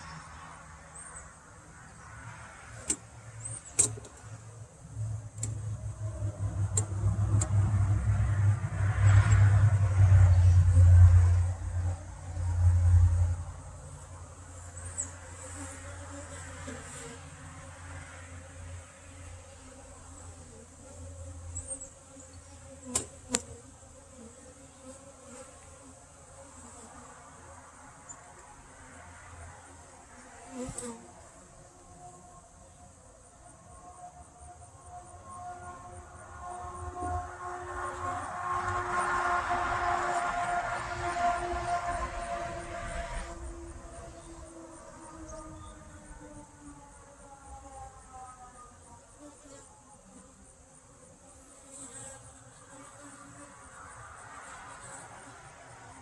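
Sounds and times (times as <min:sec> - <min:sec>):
low rumbling bee drone: 0:00.0 - 0:56.0.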